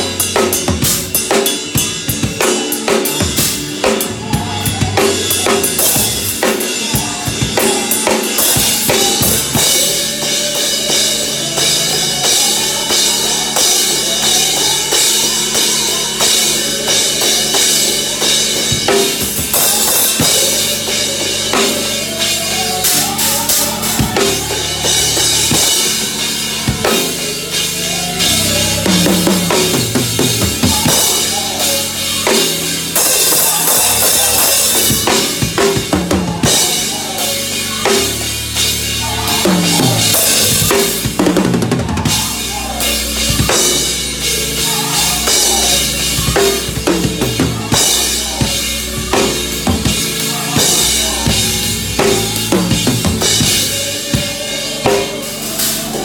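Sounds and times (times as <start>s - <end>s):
drum kit played fast: 0.0s - 56.0s
gospel groove music track: 0.0s - 56.0s.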